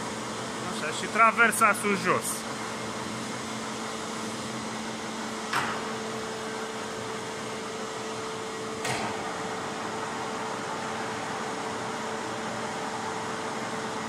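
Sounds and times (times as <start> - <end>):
lathe motor and gearbox hum: 0.0 - 14.0.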